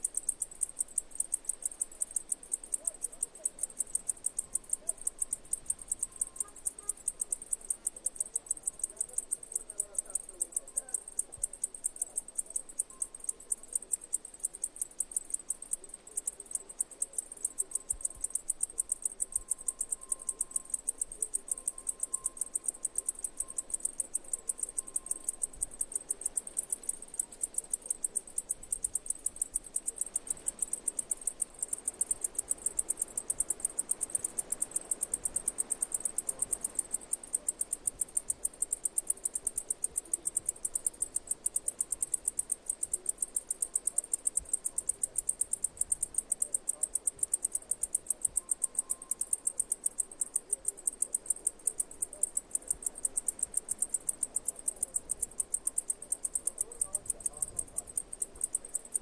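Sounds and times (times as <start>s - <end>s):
insect chirping: 0.0s - 59.0s.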